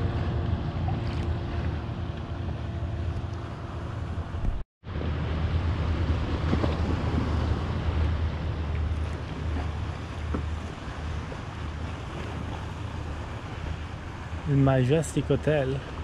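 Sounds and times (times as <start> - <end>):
water lapping: 0.0 - 4.6, 5.7 - 16.0
wind rumbling on microphone: 0.0 - 14.6.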